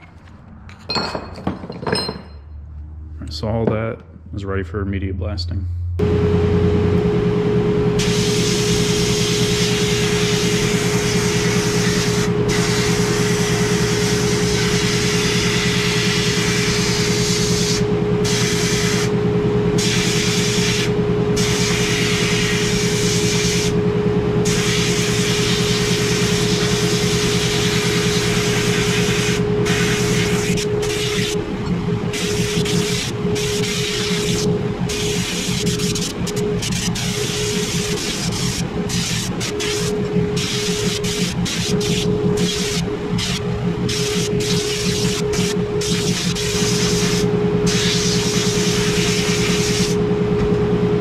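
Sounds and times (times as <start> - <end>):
machine hum: 4.1 - 51.0.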